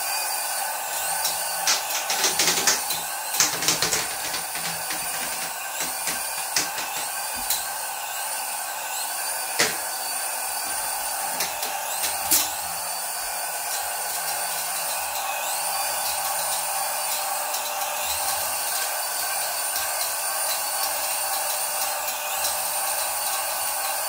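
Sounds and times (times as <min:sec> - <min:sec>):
toy helicopter rotor whine: 0:00.0 - 0:24.0.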